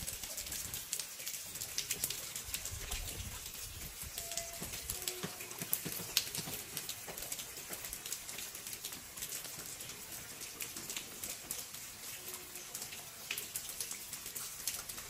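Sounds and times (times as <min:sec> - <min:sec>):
rain drips on hard surfaces: 0:00.0 - 0:15.0
soft rain hiss: 0:00.0 - 0:15.0.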